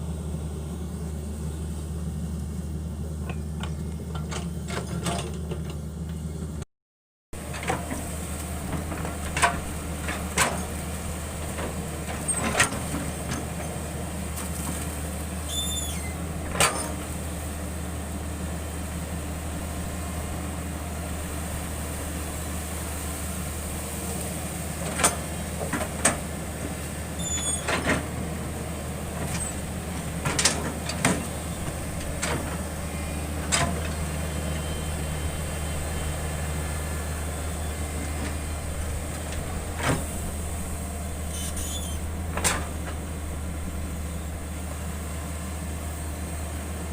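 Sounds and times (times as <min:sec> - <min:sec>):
excavator diesel engine running: 0:00.0 - 0:06.6, 0:07.4 - 0:46.9.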